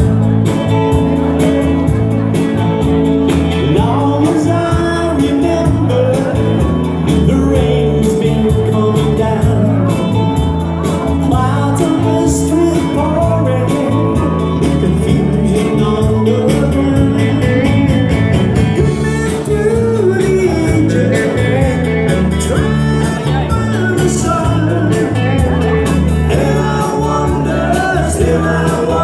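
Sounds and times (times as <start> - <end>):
rock band playing dance music: 0.0 - 29.0.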